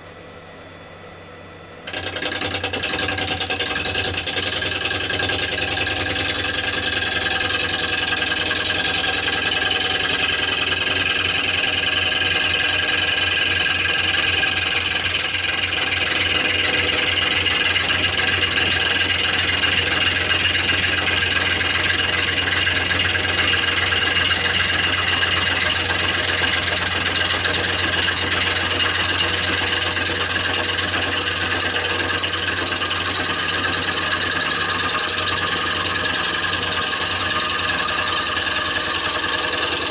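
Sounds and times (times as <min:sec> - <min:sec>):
wood lathe motor hum: 0:01.8 - 0:39.9.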